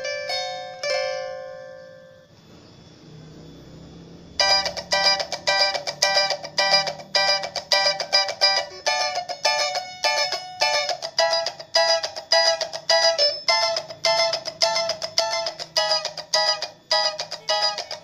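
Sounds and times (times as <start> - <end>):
small stringed instrument strummed: 0.0 - 2.4, 4.4 - 18.0.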